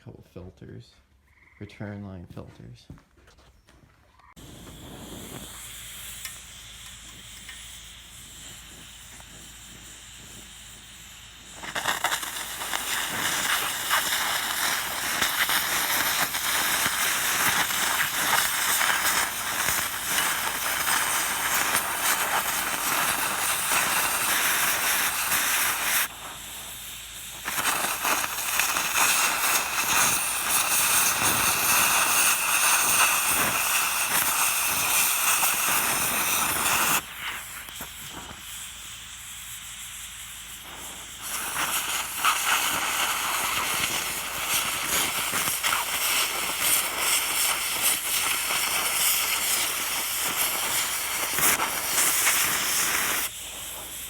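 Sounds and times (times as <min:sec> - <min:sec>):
loud pressurized hiss: 0:04.3 - 0:54.0.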